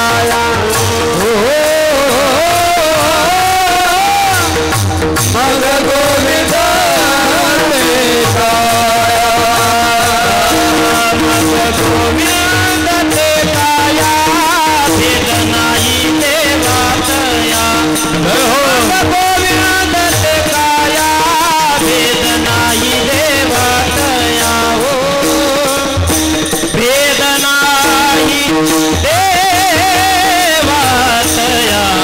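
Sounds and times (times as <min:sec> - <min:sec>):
men singing: 0:00.0 - 0:32.0.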